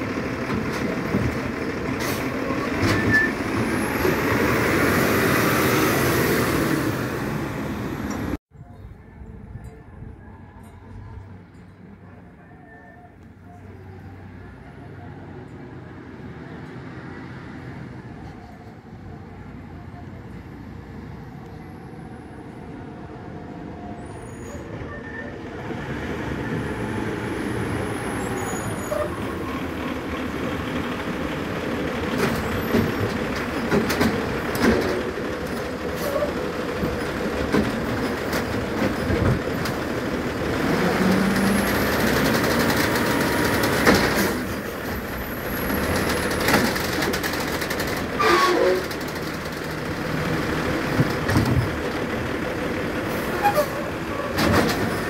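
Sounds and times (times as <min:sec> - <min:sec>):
diesel truck engine: 0:00.0 - 0:08.4, 0:13.1 - 0:55.0.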